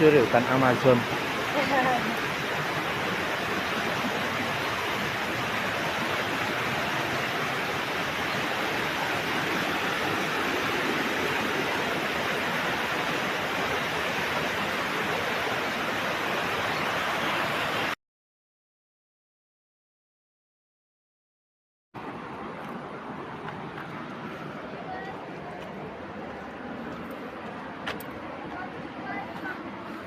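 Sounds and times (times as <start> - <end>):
waterfall rushing water: 0.0 - 18.0, 22.0 - 30.0.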